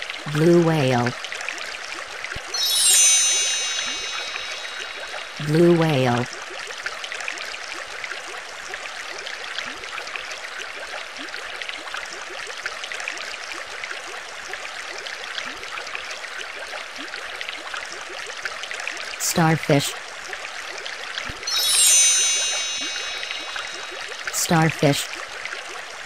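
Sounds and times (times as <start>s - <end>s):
water trickling and bubbling: 0.0s - 26.0s.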